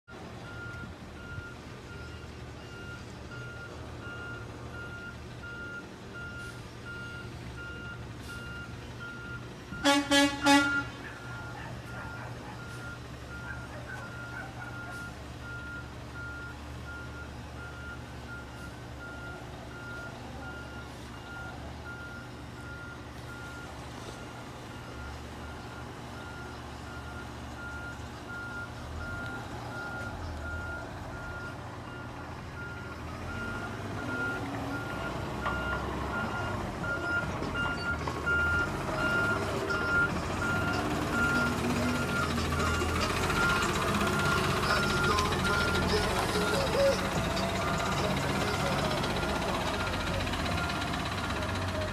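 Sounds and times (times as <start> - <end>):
truck engine running: 0.1 - 51.9
backup alarm beeping: 0.4 - 51.5.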